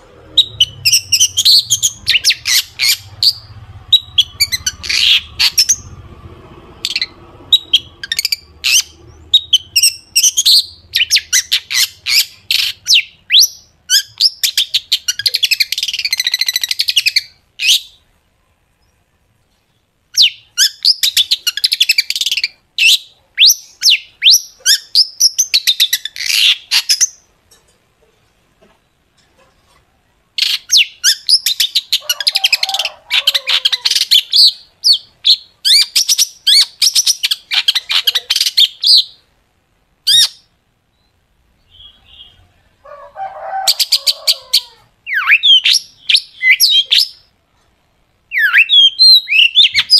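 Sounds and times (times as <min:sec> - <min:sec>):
bird chattering song: 0:00.3 - 0:06.0, 0:06.8 - 0:18.1, 0:19.7 - 0:27.3, 0:30.4 - 0:39.3, 0:40.0 - 0:42.5, 0:43.7 - 0:47.3, 0:48.3 - 0:49.9.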